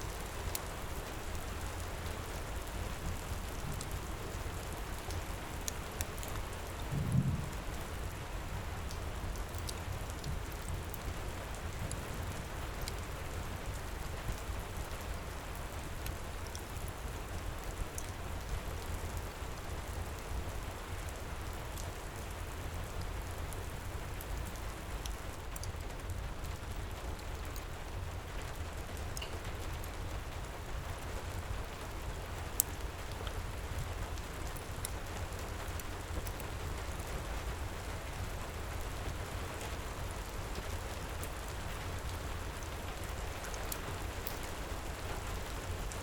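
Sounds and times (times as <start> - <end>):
fireplace crackles: 0.0 - 46.0
heavy rain pouring: 0.1 - 46.0.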